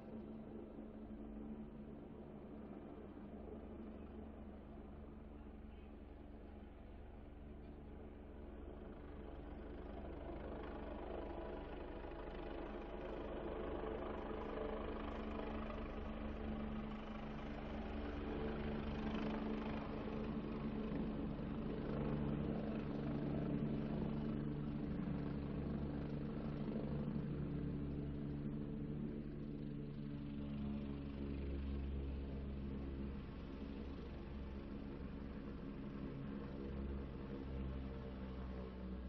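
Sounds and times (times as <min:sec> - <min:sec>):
helicopter engine and rotors: 0:00.0 - 0:39.0.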